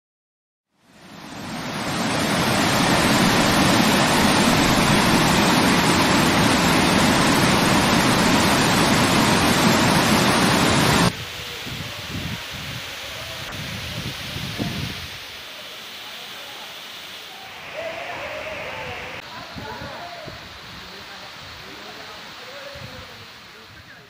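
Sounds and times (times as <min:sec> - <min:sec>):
waterfall rushing: 0:00.8 - 0:24.0.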